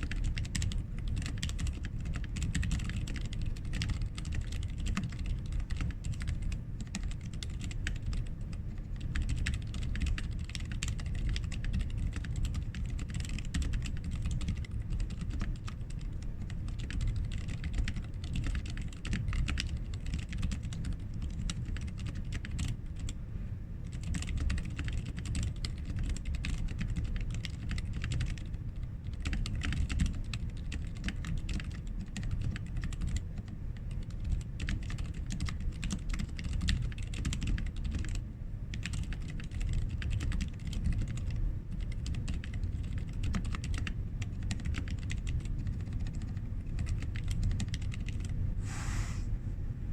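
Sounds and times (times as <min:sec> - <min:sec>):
mechanical keyboard typing: 0:00.0 - 0:23.2, 0:23.8 - 0:48.4.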